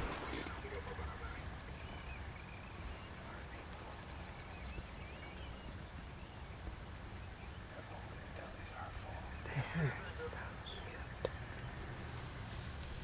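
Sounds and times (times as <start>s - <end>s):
steady low rumble: 0.0s - 13.0s
faint wavering chirping calls: 0.1s - 13.0s.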